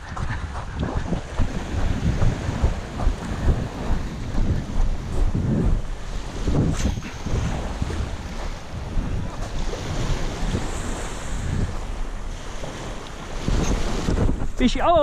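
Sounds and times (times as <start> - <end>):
small waves washing on beach: 0.0 - 15.0
wind buffeting microphone: 0.0 - 15.0.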